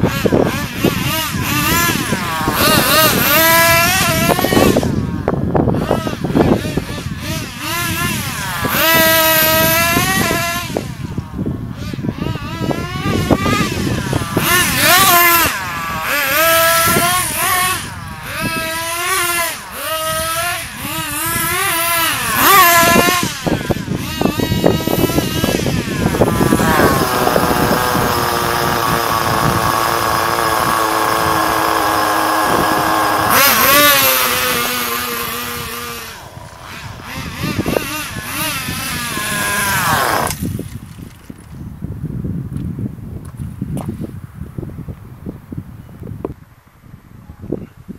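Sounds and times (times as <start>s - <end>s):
model car engine revving: 0.0s - 40.8s.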